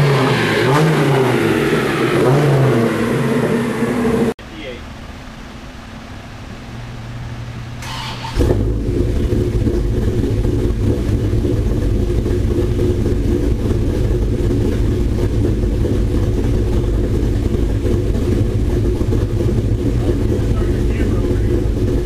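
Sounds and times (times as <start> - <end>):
engine rumbling on a dyno: 0.0 - 22.0.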